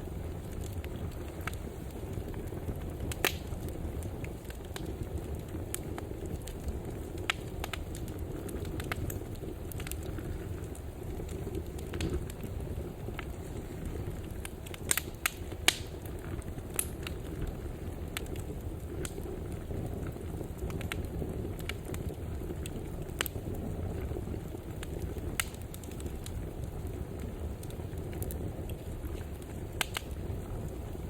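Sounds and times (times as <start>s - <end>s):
fire crackling and popping: 0.0s - 31.0s
flames rumbling: 0.0s - 31.0s.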